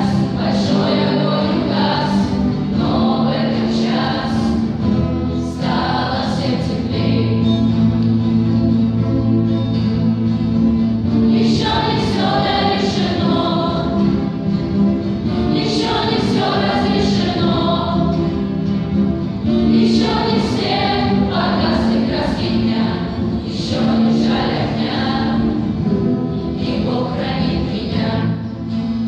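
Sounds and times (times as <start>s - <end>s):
group of voices singing: 0.0s - 7.9s, 11.2s - 14.6s, 15.2s - 18.7s, 19.4s - 28.6s.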